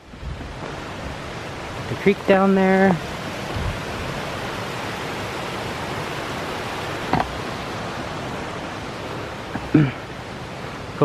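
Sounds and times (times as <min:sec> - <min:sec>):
creek water rushing: 0:00.0 - 0:10.9.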